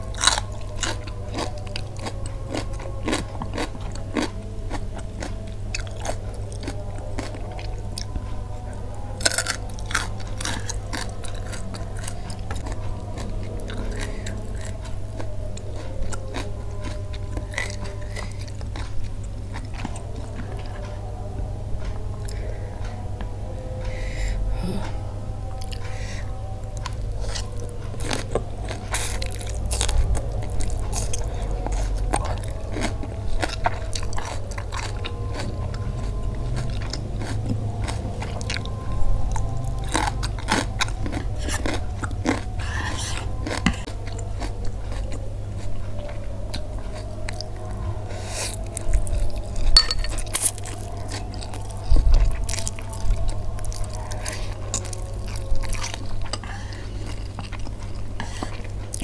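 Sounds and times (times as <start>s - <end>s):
chewing and crunching noodles: 0.0s - 59.0s
steady low hum: 0.0s - 59.0s.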